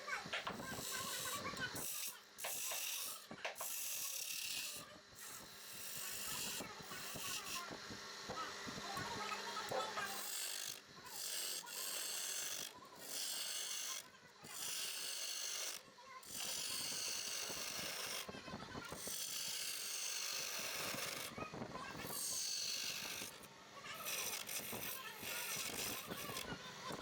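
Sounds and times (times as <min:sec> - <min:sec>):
lathe tool scraping wood: 0:00.2 - 0:27.0.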